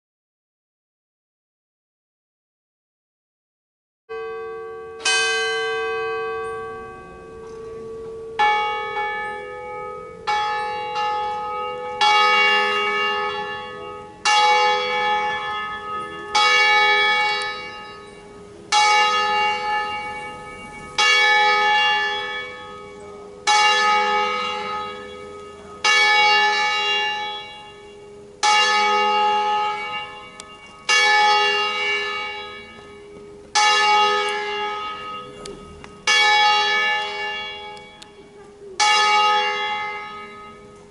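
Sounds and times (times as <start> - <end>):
church bell ringing: 4.1 - 40.9.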